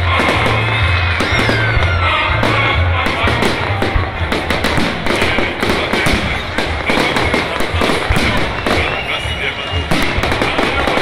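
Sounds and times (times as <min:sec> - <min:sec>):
fireworks bangs and crackles: 0:00.0 - 0:11.0
music playing: 0:00.0 - 0:11.0.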